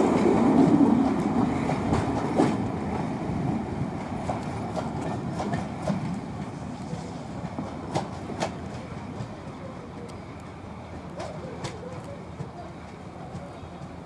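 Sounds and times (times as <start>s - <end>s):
passenger train rolling past: 0.0s - 14.0s
wheels clicking over rail joints: 0.0s - 14.0s.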